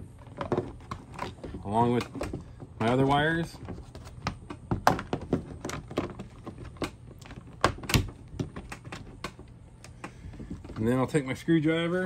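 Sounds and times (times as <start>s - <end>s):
clicks and knocks of wiring box: 0.1s - 11.0s.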